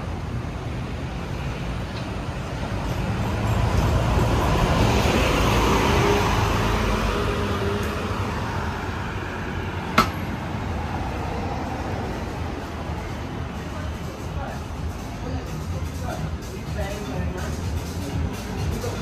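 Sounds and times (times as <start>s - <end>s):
steady traffic rumble: 0.0s - 19.0s.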